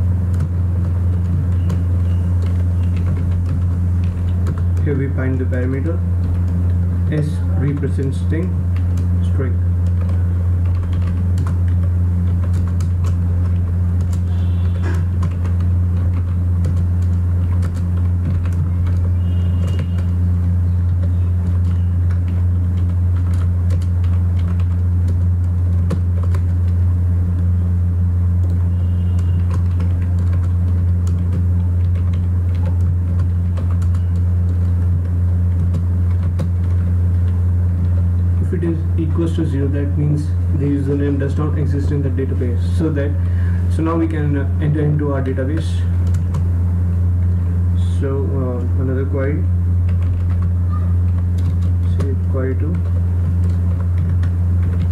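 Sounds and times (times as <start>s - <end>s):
loud low hum: 0.0s - 54.9s
keyboard keys clicking: 0.2s - 27.6s, 28.4s - 38.4s, 44.9s - 46.5s, 49.8s - 54.9s.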